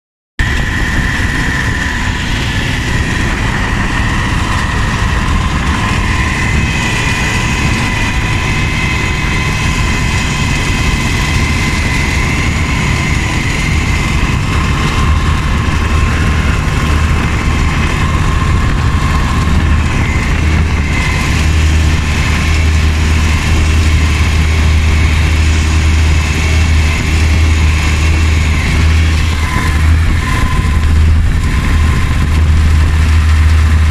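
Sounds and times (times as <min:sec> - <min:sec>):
boat motor droning: 0:00.4 - 0:33.9.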